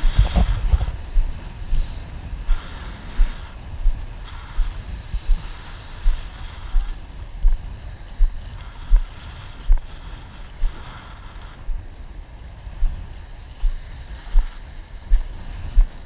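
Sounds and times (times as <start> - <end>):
small waves washing: 0.0 - 16.0.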